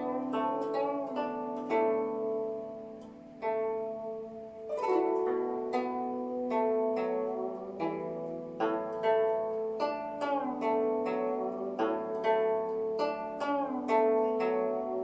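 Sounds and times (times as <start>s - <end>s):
plucked zither melody: 0.0s - 15.0s.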